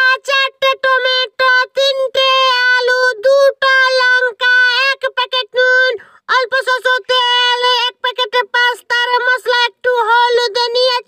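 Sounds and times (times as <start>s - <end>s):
high cartoon voice talking: 0.0s - 11.0s.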